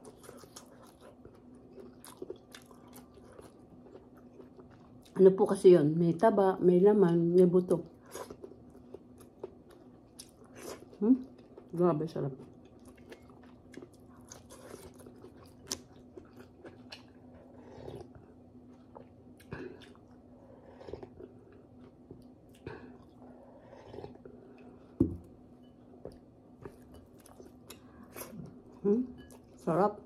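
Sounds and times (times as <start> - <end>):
person chewing food: 0.0 - 5.2, 7.9 - 11.7, 12.4 - 29.6
faint steady hum: 0.0 - 30.0.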